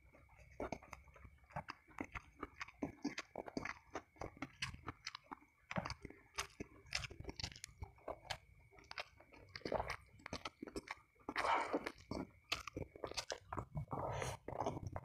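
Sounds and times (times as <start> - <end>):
chewing with mouth clicks: 0.0 - 15.0.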